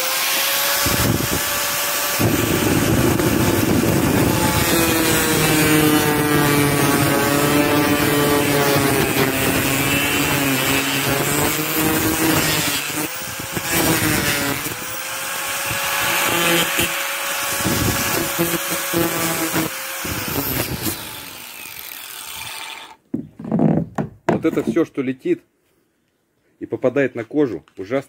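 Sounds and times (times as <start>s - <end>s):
angle grinder sanding fiberglass: 0.0s - 23.0s.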